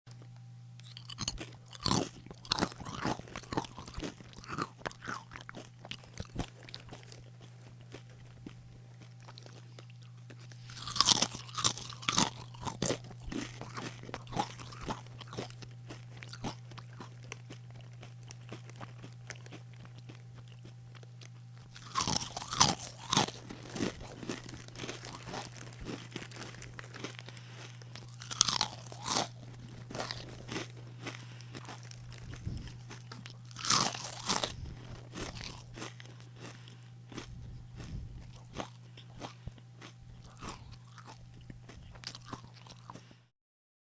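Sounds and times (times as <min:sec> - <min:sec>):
steady low hum: 0:00.1 - 0:43.3
crunching potato chips: 0:00.8 - 0:43.2.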